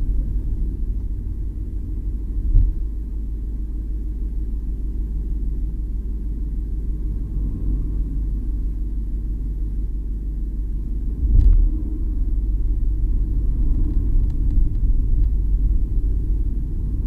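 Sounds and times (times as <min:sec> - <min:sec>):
low road rumble: 0:00.0 - 0:17.0.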